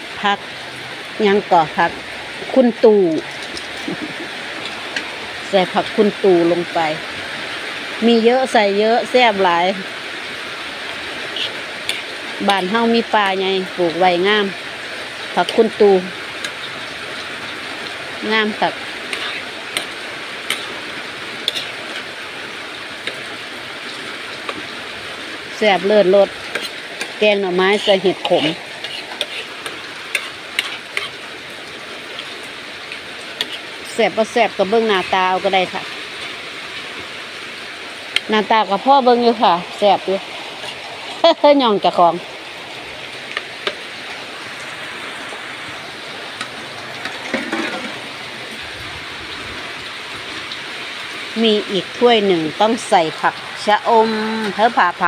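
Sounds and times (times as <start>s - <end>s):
curry bubbling in a wok: 0.1s - 38.8s, 39.4s - 52.0s.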